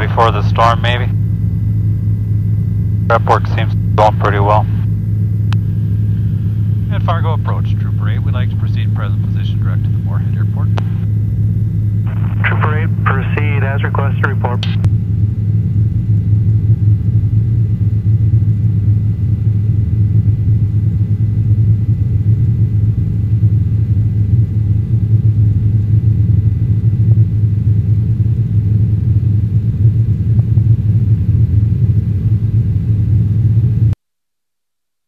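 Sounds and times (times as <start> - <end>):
helicopter rotor rumble: 0.0 - 34.0.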